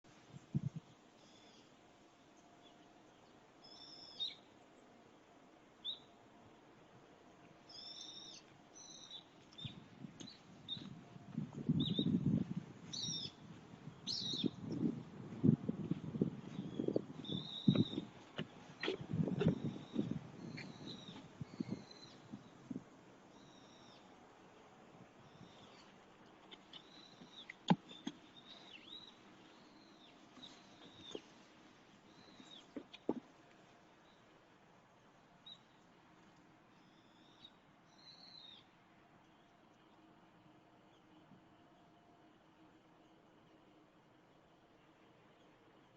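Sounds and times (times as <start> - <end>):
small birds chirping: 0.0 - 4.9, 7.4 - 34.4, 35.4 - 41.3
faint background hiss: 0.1 - 45.9.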